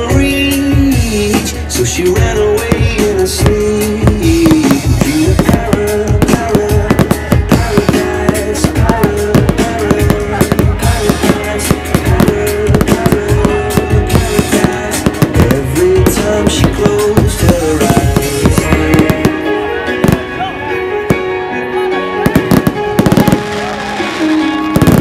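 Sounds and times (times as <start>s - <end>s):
fireworks bangs and crackles: 0.0s - 20.4s, 22.2s - 25.0s
music over sound system: 0.0s - 25.0s.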